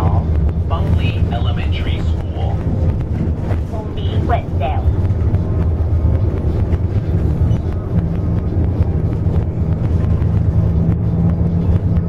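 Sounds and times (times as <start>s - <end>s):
bus engine and road drone: 0.0s - 12.0s
steady hum: 0.0s - 12.0s.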